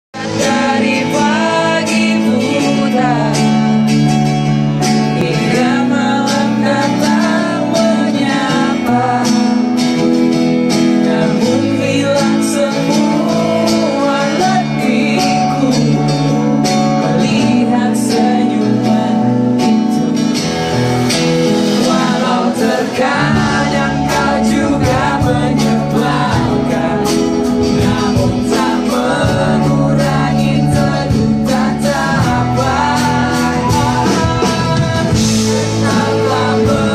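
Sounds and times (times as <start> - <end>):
bass: 0.0 - 36.9
man singing: 0.1 - 20.4, 21.4 - 36.9
acoustic and electric guitars: 0.1 - 36.9.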